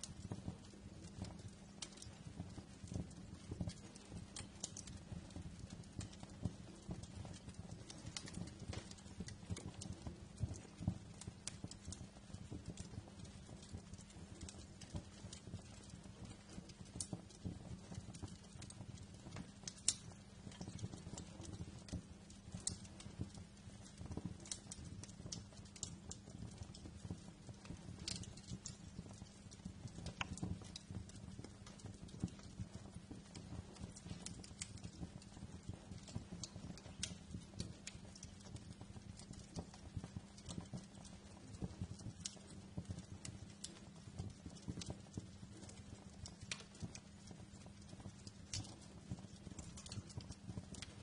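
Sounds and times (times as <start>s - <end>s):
fire pops and snaps: 0.0s - 51.0s
low rumble of flames: 0.0s - 51.0s.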